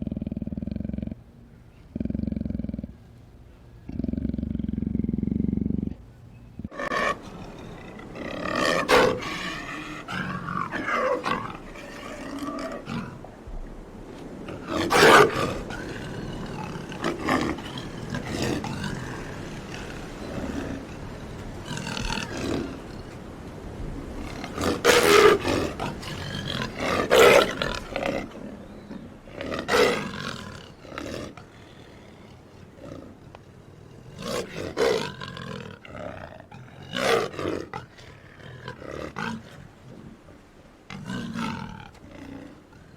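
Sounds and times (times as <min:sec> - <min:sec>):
big cat roars and snarls: 0:01.9 - 0:03.0, 0:03.8 - 0:06.0, 0:06.6 - 0:13.4, 0:14.2 - 0:40.3.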